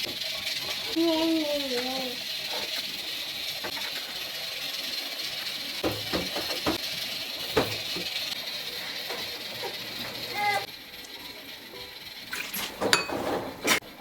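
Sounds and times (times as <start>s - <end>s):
steady hiss: 0.0s - 12.3s
kitchen utensils clinking: 0.0s - 14.0s.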